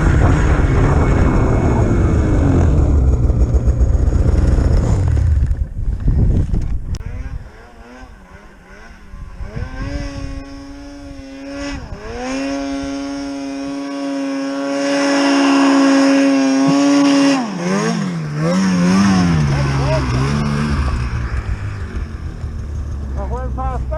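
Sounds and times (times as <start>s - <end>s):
snowmobile engine revving: 0.0s - 6.2s, 6.9s - 23.9s.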